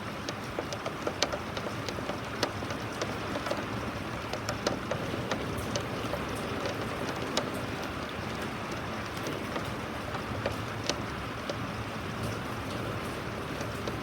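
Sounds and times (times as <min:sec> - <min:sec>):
raindrops ticking on surface: 0:00.0 - 0:14.0
steady rain hiss: 0:00.0 - 0:14.0.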